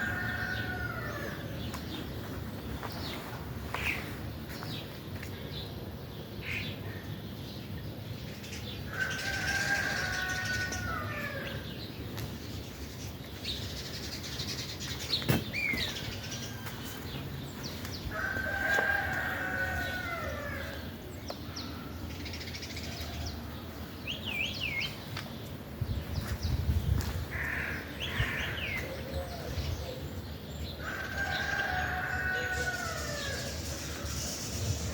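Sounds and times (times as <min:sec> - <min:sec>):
birds drawn-out calls: 0:00.0 - 0:04.9, 0:08.3 - 0:25.0, 0:27.2 - 0:34.9.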